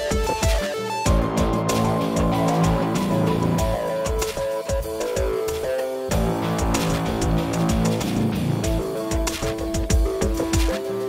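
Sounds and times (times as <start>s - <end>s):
music with drum beat and guitar: 0.0s - 11.0s.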